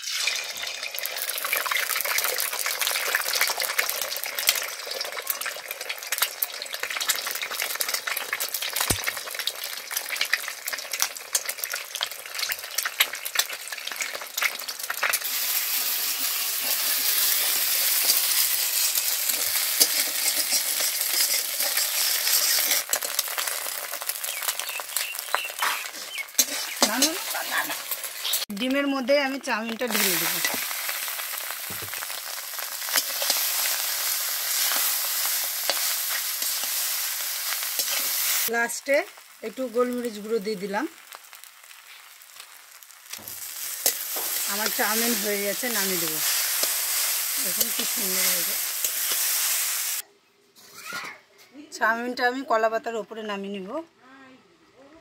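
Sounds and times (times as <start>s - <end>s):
eggs sizzling in hot oil: 0.0s - 50.1s.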